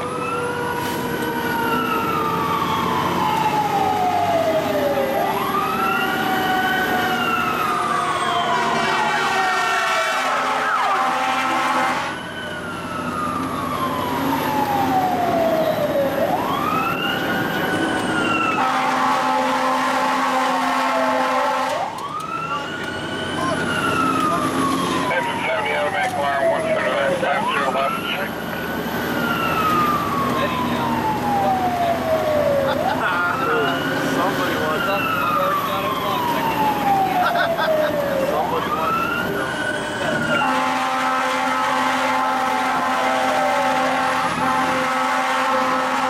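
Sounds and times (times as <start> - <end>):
fire engine siren wailing: 0.0 - 46.0
steady blaring siren tone: 0.0 - 46.0.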